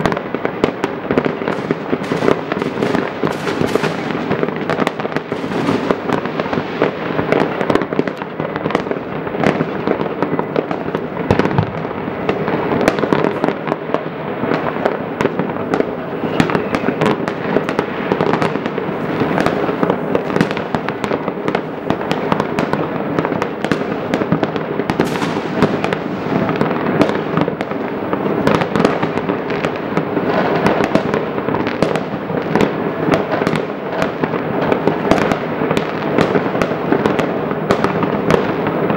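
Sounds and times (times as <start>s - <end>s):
fireworks crackling and banging: 0.0s - 38.9s.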